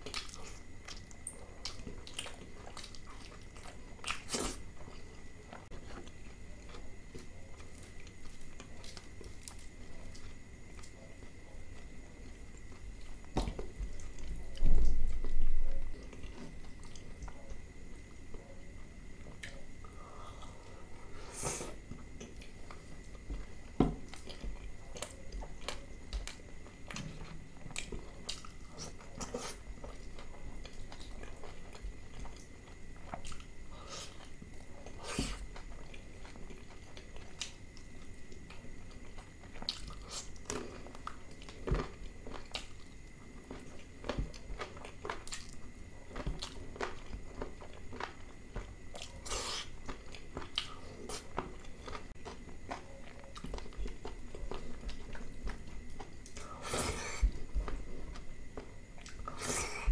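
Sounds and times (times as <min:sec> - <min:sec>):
man chewing food: 0:00.0 - 0:59.9.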